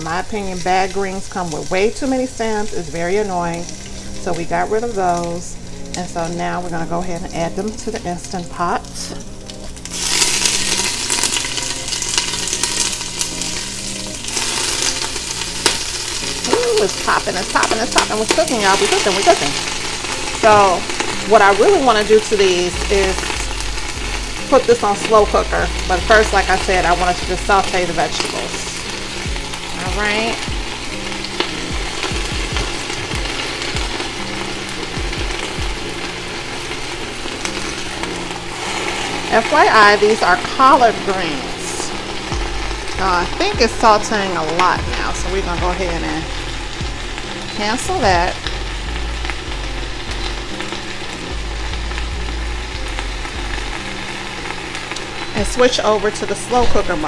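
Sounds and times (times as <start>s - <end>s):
greens sizzling in hot oil: 0.0s - 57.0s
soft background music: 0.0s - 57.0s.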